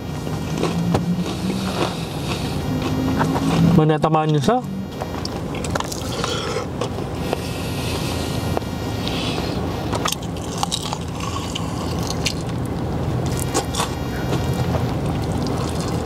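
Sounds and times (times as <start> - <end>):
steady low hum: 0.0 - 16.0
chewing crispy fried chicken: 0.4 - 4.4, 5.2 - 8.2, 9.9 - 16.0.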